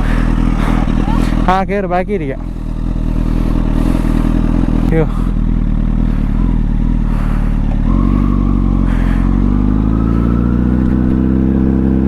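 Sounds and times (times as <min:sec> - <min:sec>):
motorcycle engine revving up: 0:00.0 - 0:12.0.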